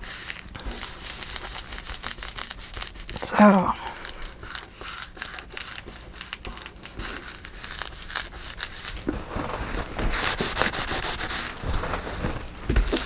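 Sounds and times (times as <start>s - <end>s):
hands rubbing paper: 0.0s - 13.0s.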